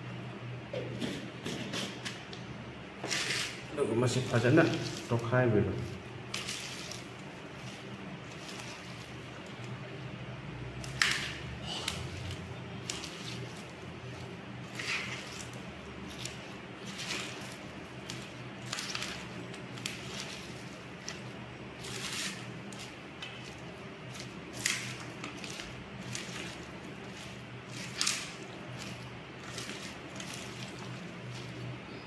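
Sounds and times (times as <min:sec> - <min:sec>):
wet squelches of mixing meat: 0:03.0 - 0:32.0.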